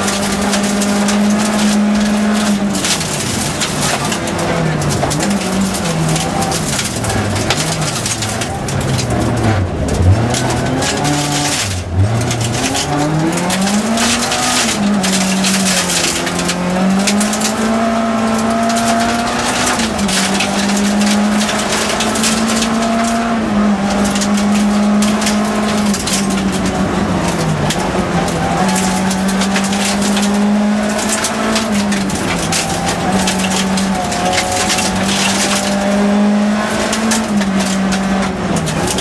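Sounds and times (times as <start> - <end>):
gravel rattling against car: 0.0 - 39.0
rally car engine accelerating: 0.0 - 39.0.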